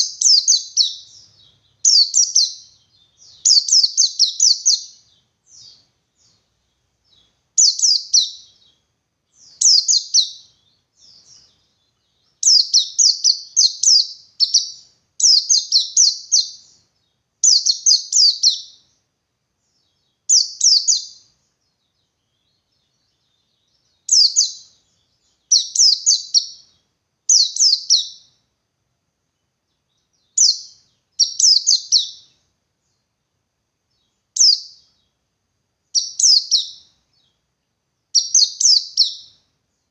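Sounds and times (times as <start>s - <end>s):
white-eye bird twittering song: 0.0s - 28.5s, 29.2s - 33.2s, 33.9s - 39.9s.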